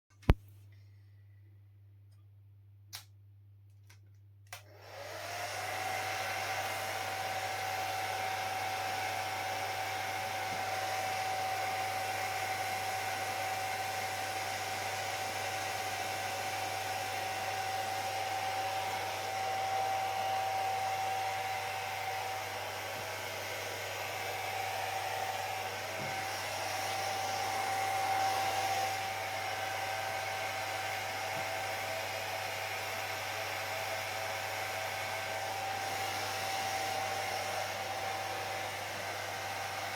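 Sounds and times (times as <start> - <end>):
hair dryer blowing: 4.5 - 39.9.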